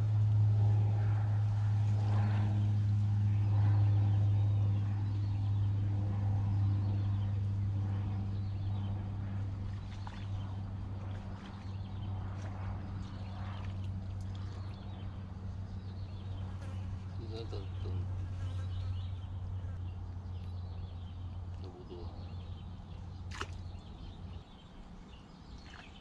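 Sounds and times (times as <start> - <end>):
birds chirping: 2.1 - 26.0.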